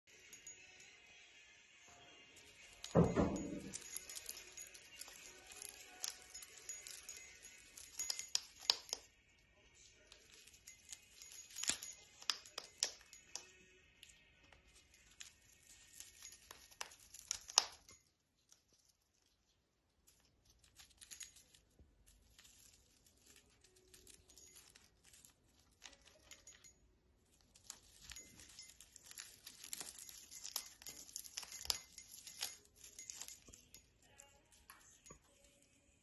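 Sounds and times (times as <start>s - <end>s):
parrot tearing crinkly toy: 3.7s - 9.0s, 10.0s - 13.5s, 14.1s - 35.8s.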